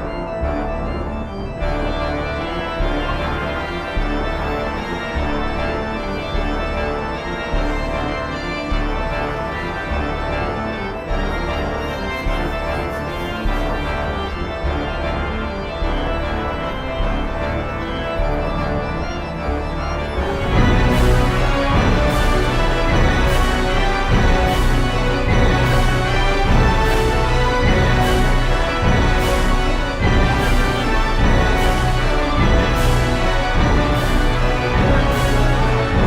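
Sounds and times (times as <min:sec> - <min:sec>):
organ playing sustained chords: 0:00.0 - 0:36.0.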